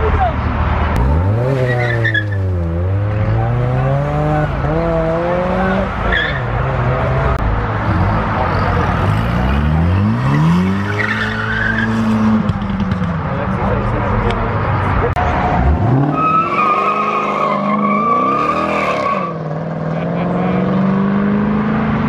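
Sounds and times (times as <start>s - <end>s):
tyres skidding: 0.0s - 21.8s
car engines revving hard: 0.0s - 22.0s.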